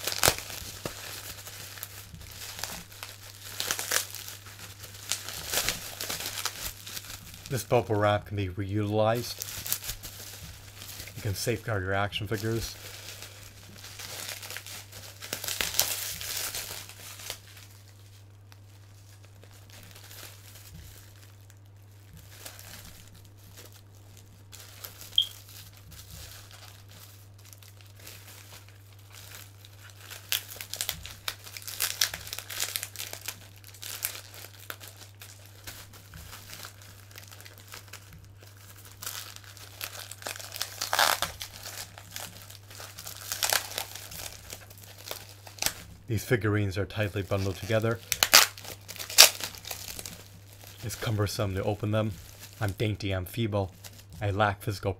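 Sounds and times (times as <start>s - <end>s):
bubble wrap crinkling: 0.0s - 54.9s
steady low hum: 0.0s - 54.9s.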